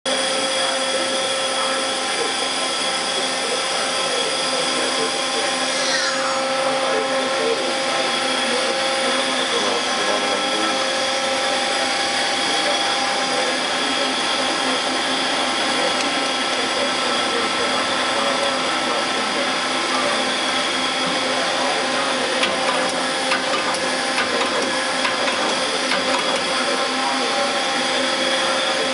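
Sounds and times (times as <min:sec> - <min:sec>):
lathe machine hum with whining: 0:00.1 - 0:28.9.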